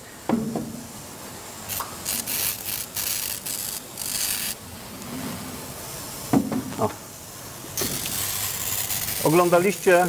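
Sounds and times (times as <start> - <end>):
bursts of hissing static: 0.0 - 10.0.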